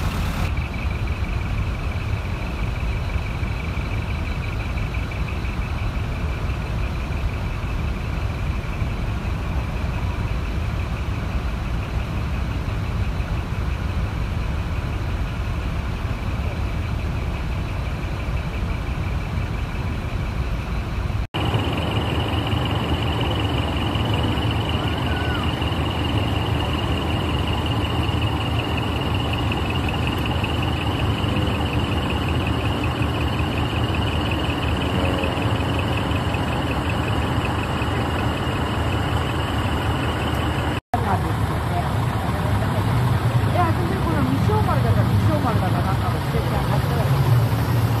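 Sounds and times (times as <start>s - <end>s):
steady high whine: 0.0s - 48.0s
truck diesel engines idling: 0.0s - 48.0s.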